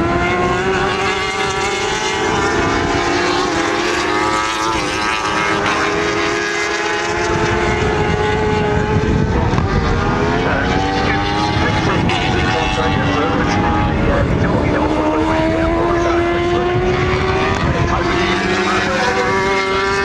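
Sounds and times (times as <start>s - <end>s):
racing motorcycles passing: 0.0s - 20.0s.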